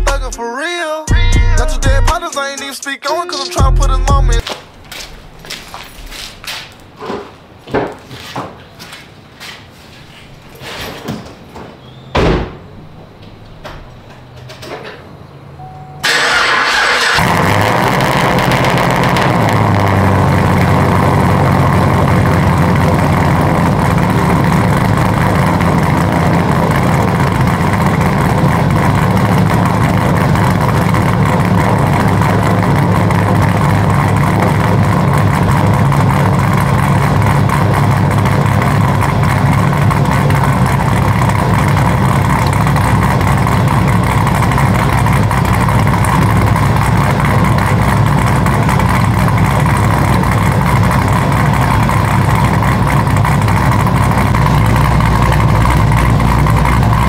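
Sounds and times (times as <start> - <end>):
car engine idling: 3.6 - 7.7, 11.8 - 57.0.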